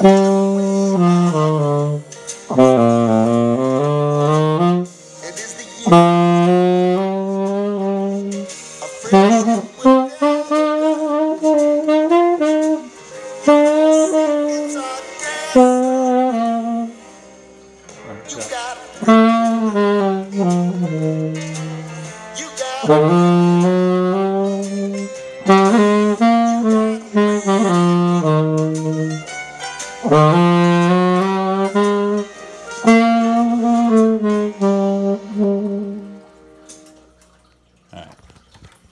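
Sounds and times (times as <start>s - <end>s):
solo saxophone melody: 0.0s - 37.0s.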